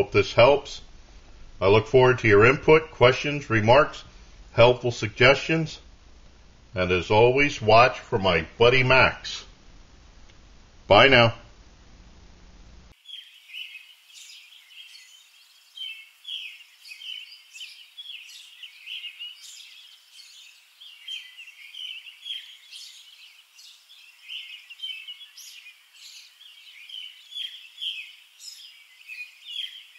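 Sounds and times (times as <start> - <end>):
songbirds chirping: 0.0 - 11.9, 12.8 - 29.9.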